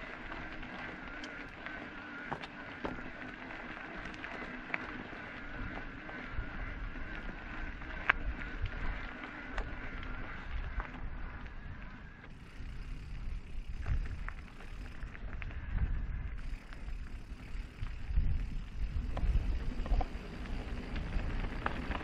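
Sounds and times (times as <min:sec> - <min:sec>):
wind buffeting microphone: 0:02.4 - 0:22.0.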